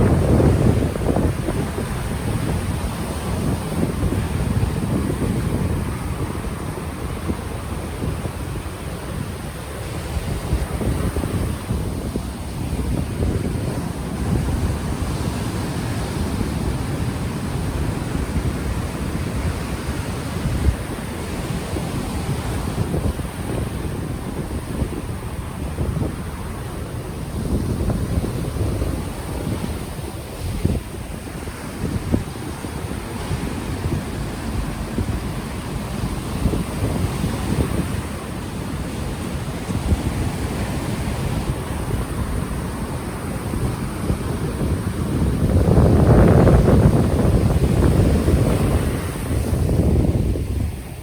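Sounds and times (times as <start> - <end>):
ocean waves washing on shore: 0.0 - 51.0
wind buffeting microphone: 0.0 - 51.0.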